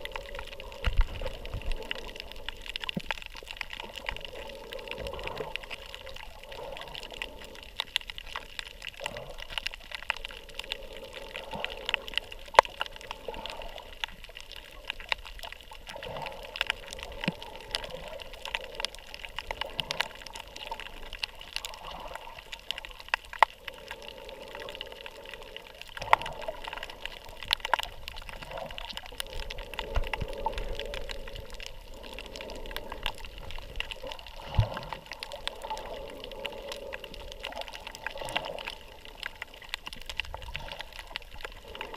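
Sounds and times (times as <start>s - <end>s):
muffled underwater water noise: 0.0s - 41.9s
sharp underwater clicks: 0.0s - 41.9s.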